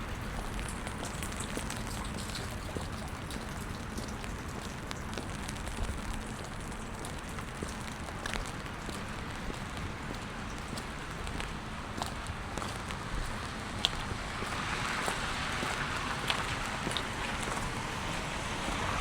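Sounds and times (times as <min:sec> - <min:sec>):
rain falling on pavement: 0:00.0 - 0:19.0
raindrops ticking: 0:00.0 - 0:19.0.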